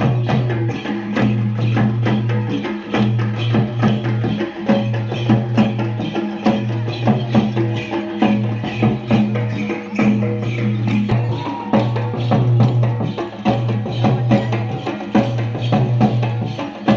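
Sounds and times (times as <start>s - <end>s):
percussion clacks and drum beats: 0.0s - 16.9s.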